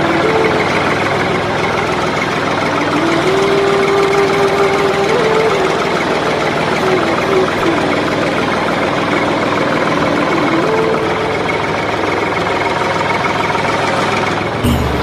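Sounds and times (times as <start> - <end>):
tractor engine idling with knocking: 0.0 - 15.0.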